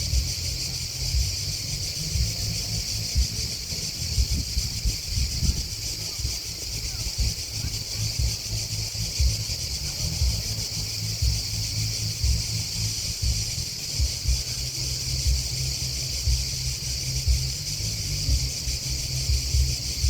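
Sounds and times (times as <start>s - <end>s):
grasshoppers and crickets chirping: 0.0s - 20.0s
low rumble: 0.0s - 20.0s.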